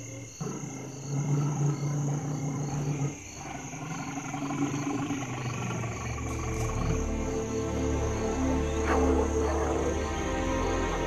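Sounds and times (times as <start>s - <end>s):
elephant rumbling call: 0.0s - 11.0s
insects chirping: 0.0s - 11.0s.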